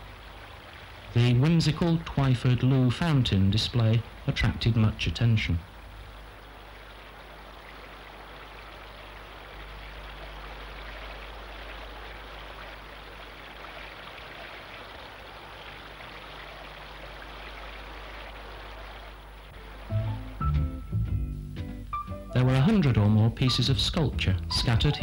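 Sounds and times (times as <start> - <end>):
fountain water splashing: 0.0 - 20.4
faint low hum: 0.0 - 21.6.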